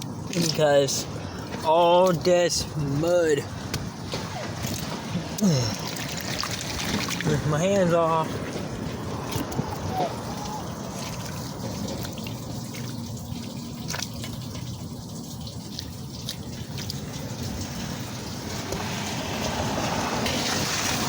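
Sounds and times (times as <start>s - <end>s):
light splashes: 0.0s - 21.0s
water trickling into storm drain: 0.0s - 21.0s.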